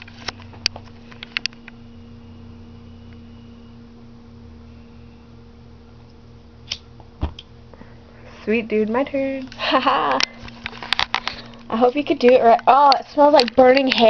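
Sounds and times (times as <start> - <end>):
steady low two-tone hum: 0.0 - 14.0.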